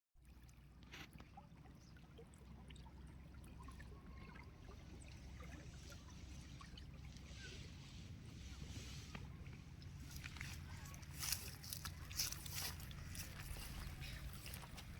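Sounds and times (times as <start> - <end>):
stream of water flowing: 0.2 - 14.9.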